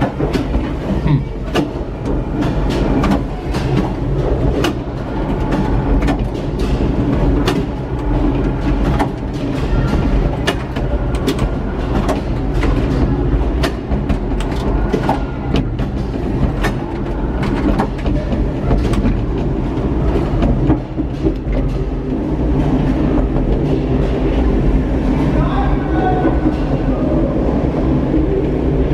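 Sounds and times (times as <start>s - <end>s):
clicks and clanks: 0.0s - 23.8s
tram low rumble: 0.0s - 28.9s.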